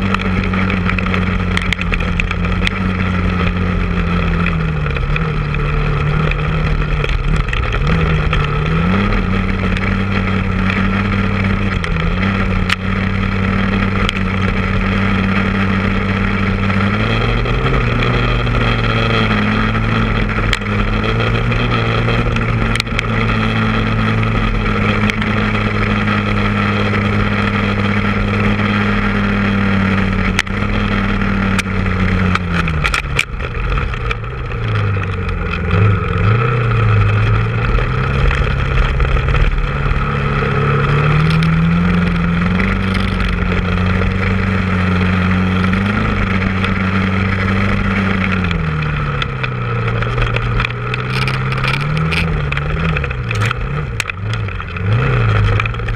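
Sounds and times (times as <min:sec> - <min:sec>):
atv engine running: 0:00.0 - 0:55.9.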